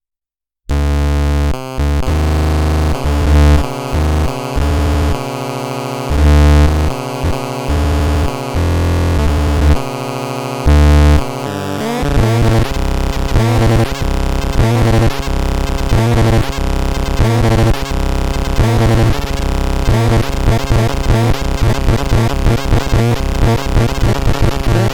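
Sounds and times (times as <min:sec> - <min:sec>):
buzzy synthesizer tones: 0:00.7 - 0:24.9.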